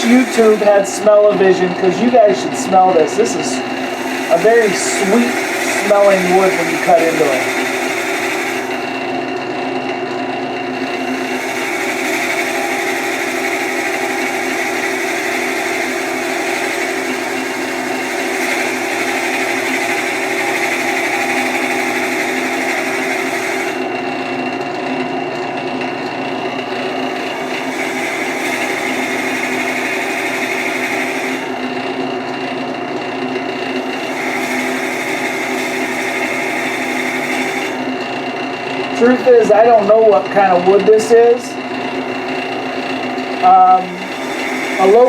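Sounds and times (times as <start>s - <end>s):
drill bit rasping into wood: 0.0s - 45.0s
lathe motor hum: 0.0s - 45.0s.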